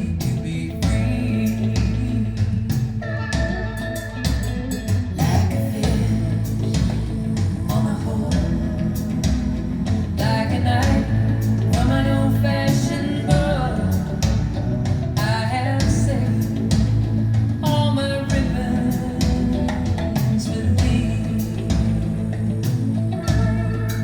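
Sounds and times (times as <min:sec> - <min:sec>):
woman singing: 0:00.0 - 0:03.6, 0:05.1 - 0:24.0
bass line: 0:00.0 - 0:24.0
guitar: 0:00.0 - 0:24.0.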